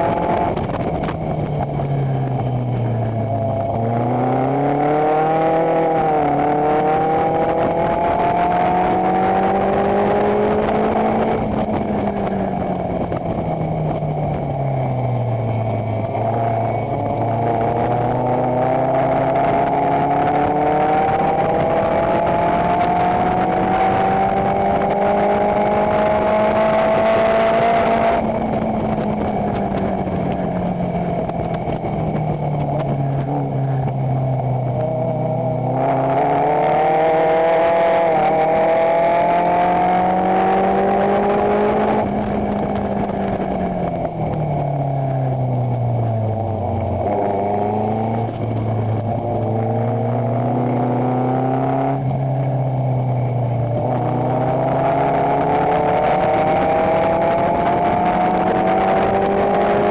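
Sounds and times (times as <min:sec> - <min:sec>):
sports car engine racing: 0:00.0 - 0:59.9.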